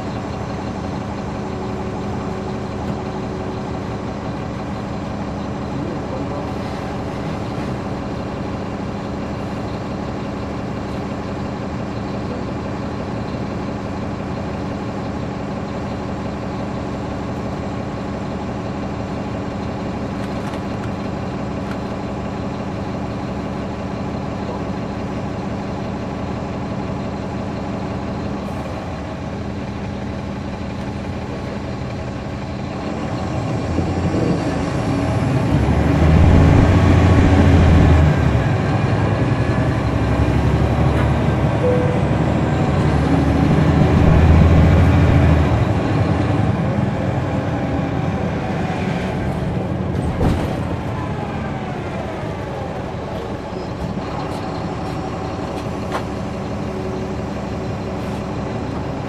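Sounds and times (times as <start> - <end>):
bus diesel engine revving: 0.0 - 59.0.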